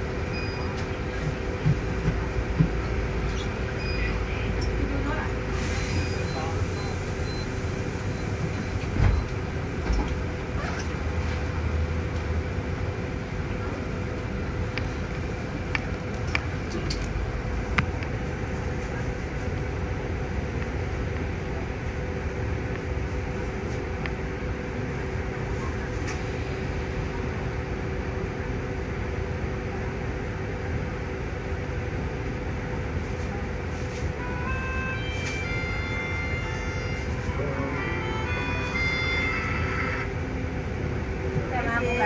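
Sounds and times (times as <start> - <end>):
bus engine and air conditioning rumble: 0.0 - 42.0.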